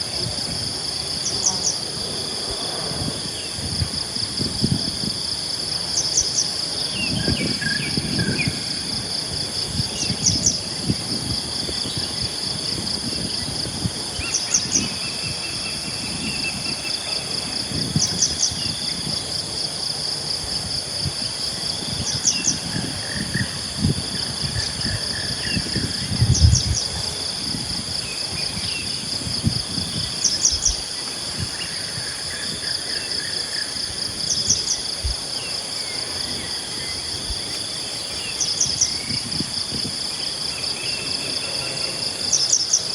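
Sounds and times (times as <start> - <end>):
cricket-like insect drone: 0.0 - 42.9.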